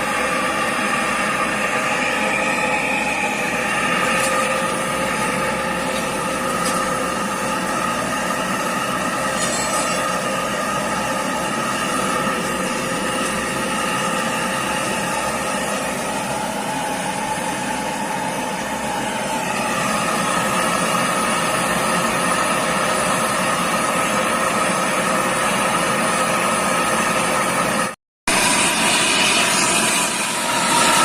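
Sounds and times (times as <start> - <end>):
machine whining tones: 0.0 - 23.8, 28.3 - 31.0
workshop machinery humming: 0.0 - 31.0.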